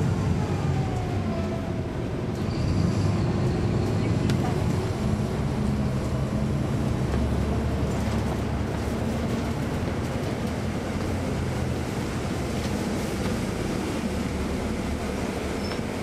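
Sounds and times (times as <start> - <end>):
bus diesel engine drone: 0.0 - 16.0
road noise: 0.0 - 16.0.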